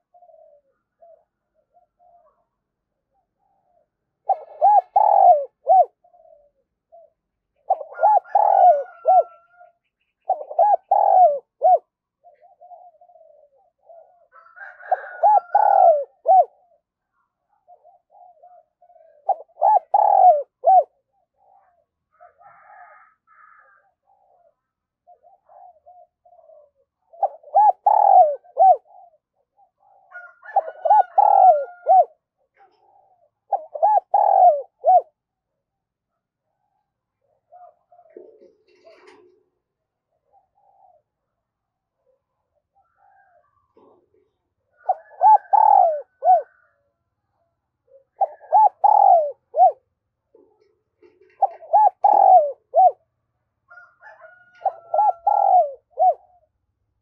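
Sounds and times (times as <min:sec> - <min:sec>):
dove cooing: 0:00.0 - 0:35.4, 0:36.4 - 0:46.9, 0:47.7 - 0:56.7.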